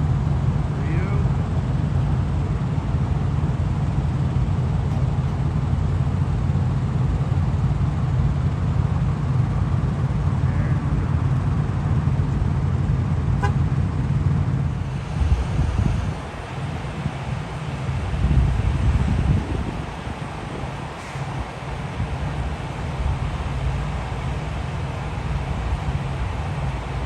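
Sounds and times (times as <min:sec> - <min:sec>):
truck engine idling: 0:00.0 - 0:27.0.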